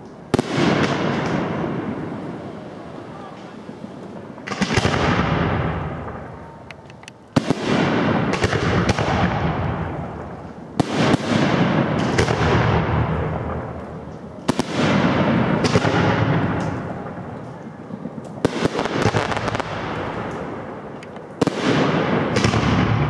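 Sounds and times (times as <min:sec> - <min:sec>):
small firework pops and cracks: 0:03.3 - 0:23.0.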